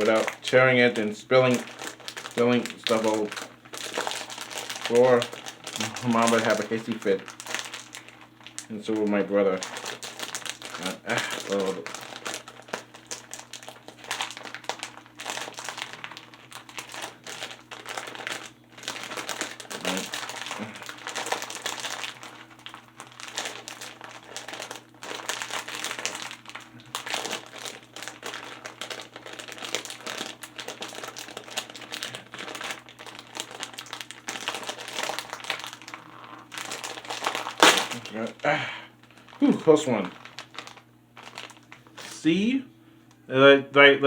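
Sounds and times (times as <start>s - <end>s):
plastic snack bag crinkling: 0.0s - 42.3s.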